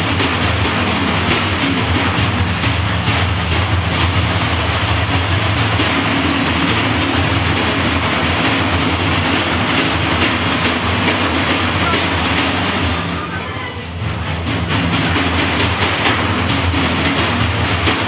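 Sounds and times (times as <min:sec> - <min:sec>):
frame drums rolling: 0:00.0 - 0:18.0.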